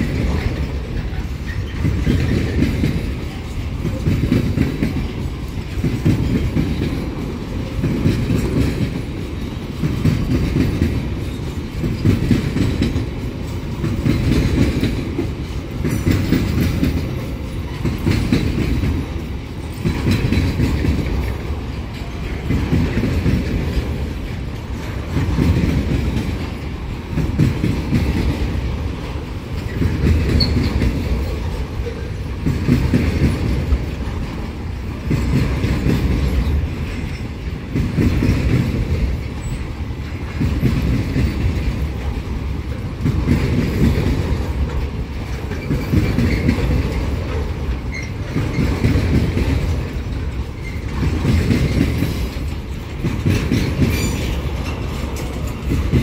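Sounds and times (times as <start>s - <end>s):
train wheels clacking over rail joints: 0.0s - 56.0s.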